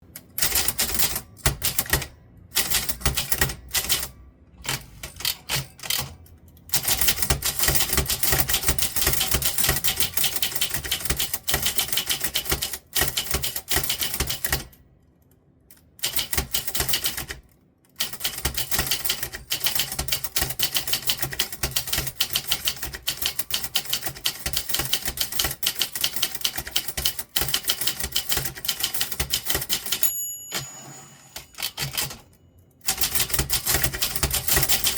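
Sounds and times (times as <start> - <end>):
typewriter keys clicking: 0.2 - 4.1, 4.7 - 14.7, 15.7 - 30.1, 31.4 - 34.9.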